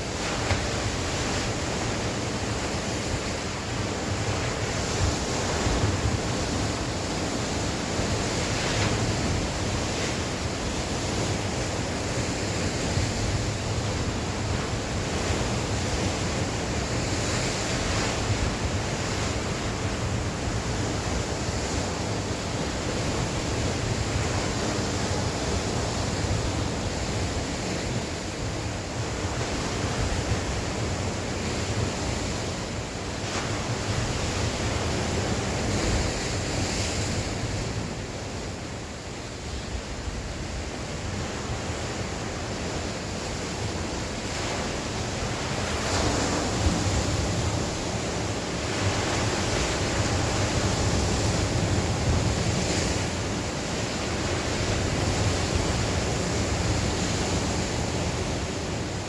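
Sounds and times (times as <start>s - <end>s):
sea waves surging on shore: 0.0s - 59.0s
wind rumbling on microphone: 0.0s - 59.0s.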